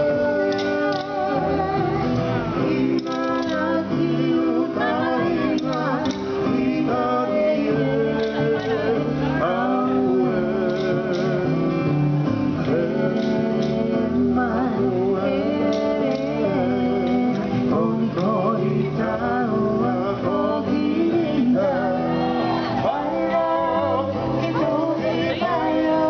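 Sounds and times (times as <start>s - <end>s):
guitar accompaniment: 0.0s - 26.0s
voices singing: 0.0s - 26.0s.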